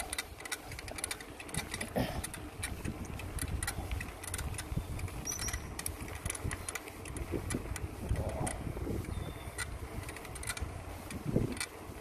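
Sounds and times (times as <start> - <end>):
bike clicks and rattles: 0.0 - 12.0
bike rolling on asphalt: 0.0 - 12.0.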